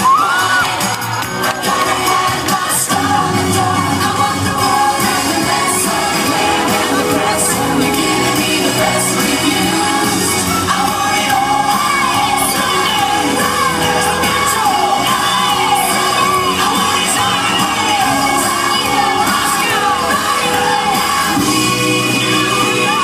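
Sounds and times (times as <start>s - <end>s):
audience shouting and cheering: 0.0s - 23.0s
pop dance music with vocals: 0.0s - 23.0s.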